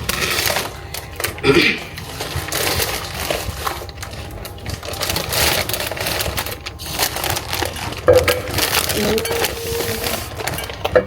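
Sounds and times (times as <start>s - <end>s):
rustling crackling handling noise: 0.0s - 11.0s.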